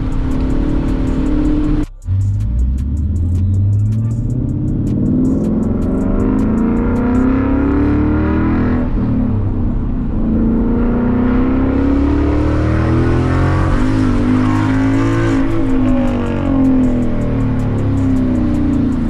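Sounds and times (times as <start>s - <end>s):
car engine through loud exhaust: 0.0s - 19.0s.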